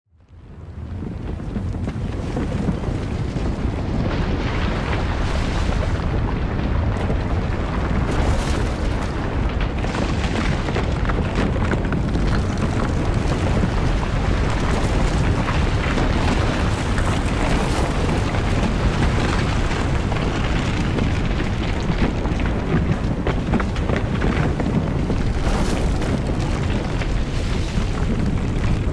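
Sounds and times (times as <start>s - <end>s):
crackles: 0.1s - 28.9s
deep rumble: 0.2s - 28.9s.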